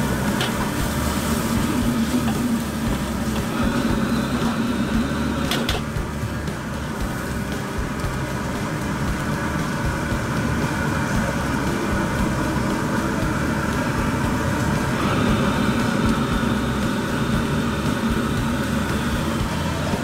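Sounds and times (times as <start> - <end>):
gas wok burner running: 0.0 - 20.0
hissing sizzle of egg: 0.0 - 20.0.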